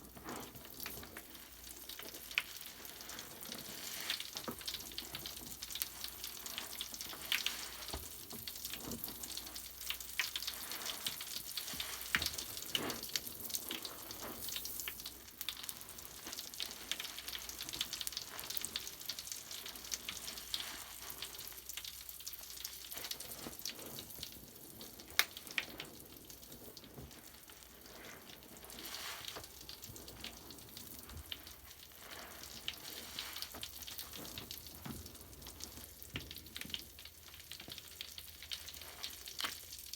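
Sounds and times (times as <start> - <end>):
bath foam bubbles crackling: 0.0 - 39.9.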